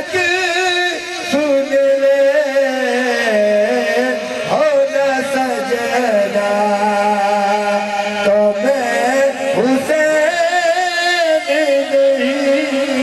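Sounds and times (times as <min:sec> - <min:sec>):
man singing melismatic notes: 0:00.0 - 0:13.0.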